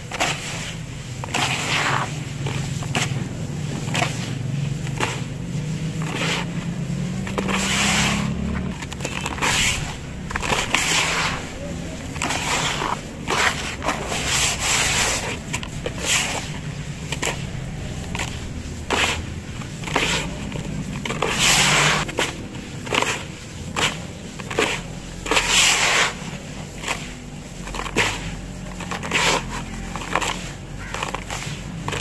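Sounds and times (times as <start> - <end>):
hands squeezing gritty sand mix: 0.0 - 32.0.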